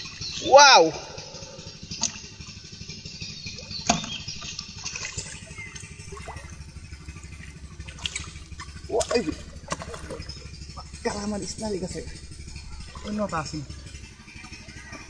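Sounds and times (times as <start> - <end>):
small motor rumbling: 0.0 - 15.0.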